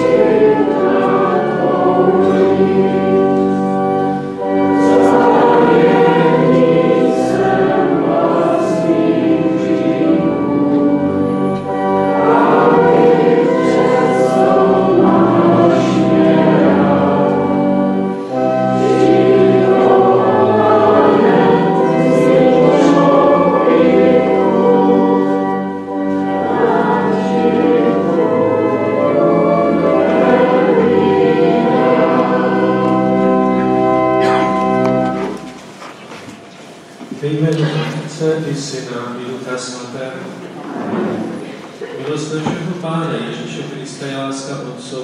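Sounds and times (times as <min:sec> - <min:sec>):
congregation singing a hymn: 0:00.0 - 0:45.0
organ accompaniment: 0:00.0 - 0:45.0.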